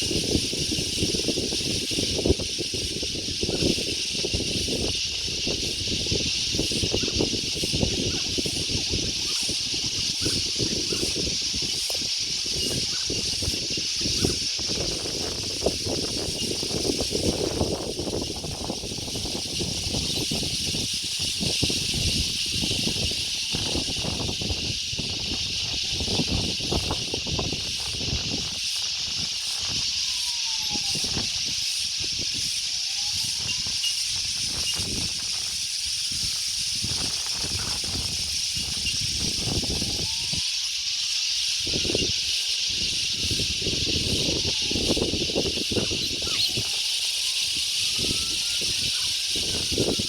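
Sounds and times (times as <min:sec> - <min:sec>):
high-pitched hiss: 0:00.0 - 0:50.0
wind gusting on microphone: 0:00.0 - 0:50.0.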